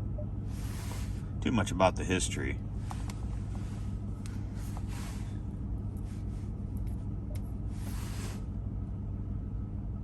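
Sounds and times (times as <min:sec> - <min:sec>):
engine idling hum: 0:00.0 - 0:10.0.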